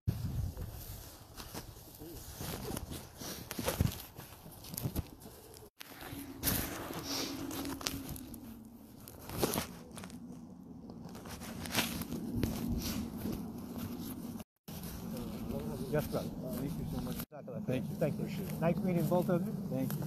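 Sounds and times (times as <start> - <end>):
footsteps crunching on snow: 0.1 - 20.0.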